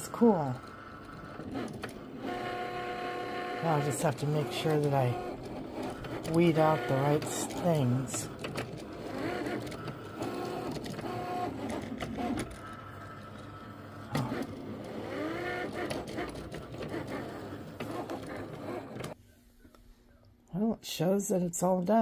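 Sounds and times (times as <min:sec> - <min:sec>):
cutting machine motors whining: 0:00.0 - 0:19.2.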